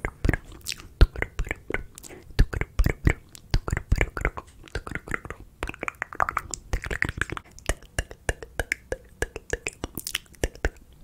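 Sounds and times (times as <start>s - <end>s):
wet mouth clicks and smacks: 0.0s - 11.0s.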